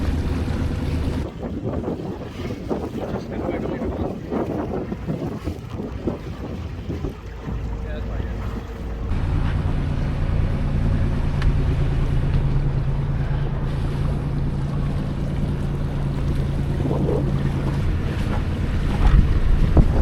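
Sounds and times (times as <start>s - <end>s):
boat engine humming: 0.0s - 20.0s
water noise: 0.0s - 20.0s
wind buffeting microphone: 0.0s - 20.0s.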